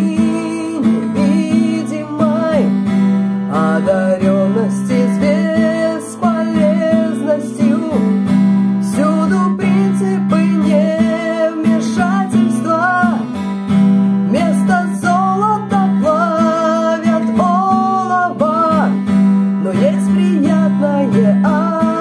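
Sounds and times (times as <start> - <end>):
woman singing slow melody: 0.0 - 2.7, 3.5 - 8.2, 8.8 - 13.3, 14.3 - 19.0, 19.6 - 22.0
acoustic guitar strumming: 0.0 - 22.0.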